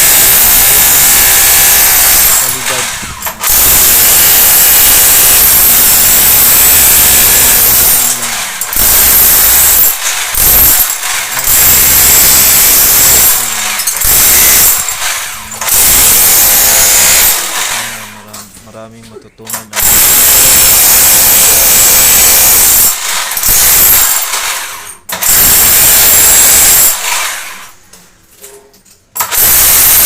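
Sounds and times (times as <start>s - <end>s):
power tool running: 0.0s - 18.5s, 19.5s - 27.8s, 29.2s - 30.0s.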